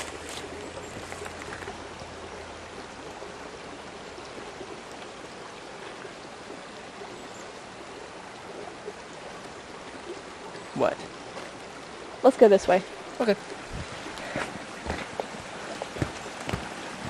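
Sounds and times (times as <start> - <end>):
rushing outdoor noise: 0.0 - 7.0, 10.2 - 17.0.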